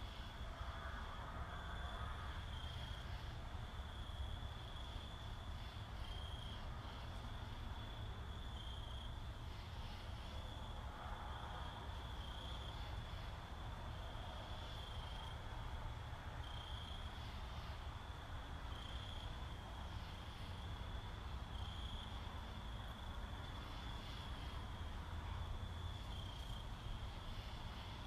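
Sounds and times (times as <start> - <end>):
insect chirping in trills: 0.0 - 28.0
low hum and hiss: 0.0 - 28.0.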